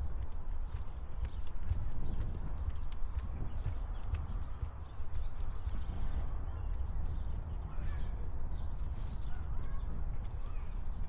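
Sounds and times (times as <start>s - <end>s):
footsteps on path: 0.0s - 11.0s.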